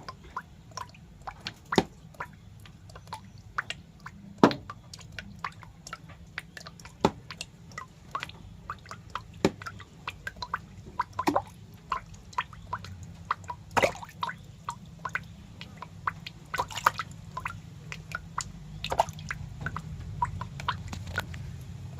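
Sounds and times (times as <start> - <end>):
low steady hum: 0.0 - 21.9
wet clicks and drips: 0.0 - 21.9.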